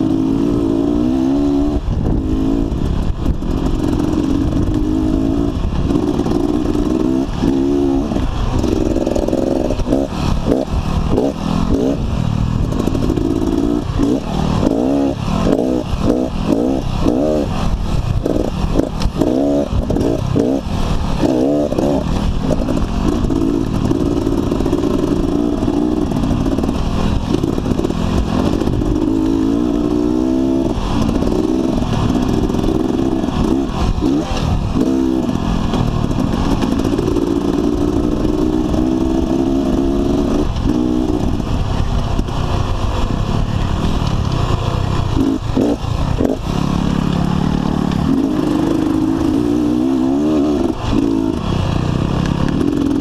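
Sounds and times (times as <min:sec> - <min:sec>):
motorcycle engine revving: 0:00.0 - 0:53.0
ride noise: 0:00.0 - 0:53.0.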